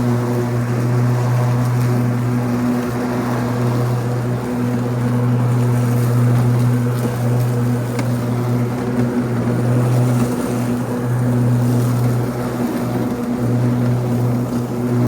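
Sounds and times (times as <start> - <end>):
electric lawn mower humming: 0.0 - 15.0.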